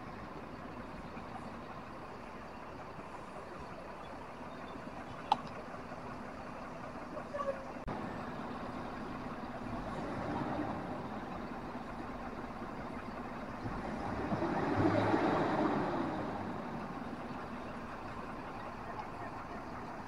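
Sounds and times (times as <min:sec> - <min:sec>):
bus engines droning: 0:00.0 - 0:20.0
traffic noise: 0:00.0 - 0:20.0.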